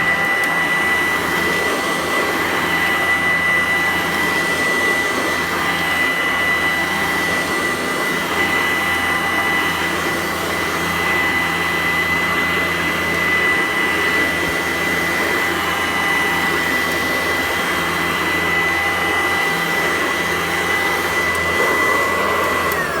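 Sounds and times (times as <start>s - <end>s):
vacuum cleaner running over carpet: 0.0s - 23.0s.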